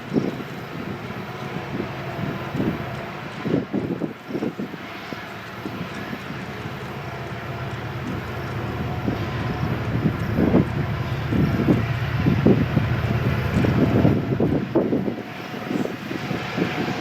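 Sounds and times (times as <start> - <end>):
distant low engine rumble: 0.0 - 17.0
wind buffeting microphone: 0.0 - 17.0.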